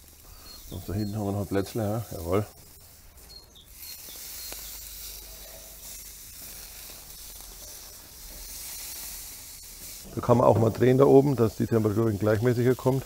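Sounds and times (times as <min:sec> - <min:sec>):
vegetables sizzling on a grill: 0:00.0 - 0:13.0.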